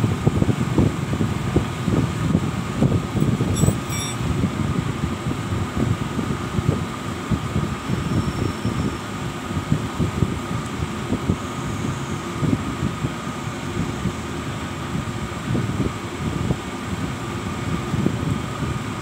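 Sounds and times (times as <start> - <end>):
fan-like machine hum: 0.0 - 19.0.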